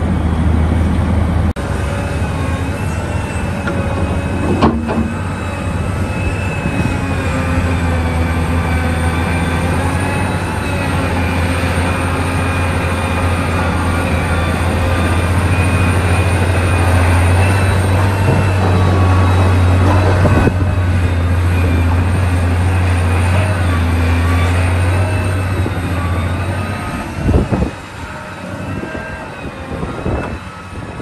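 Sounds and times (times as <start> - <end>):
deep diesel drone: 0.0 - 31.0
high machinery whines: 0.0 - 31.0.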